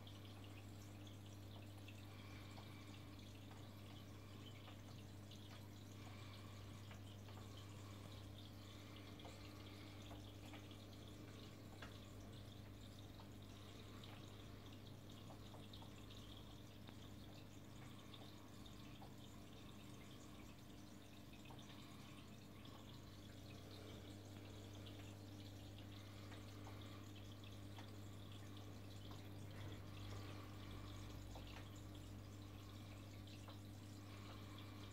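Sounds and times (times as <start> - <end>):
water trickling and dripping: 0.0 - 34.9
steady low hum: 0.2 - 34.9.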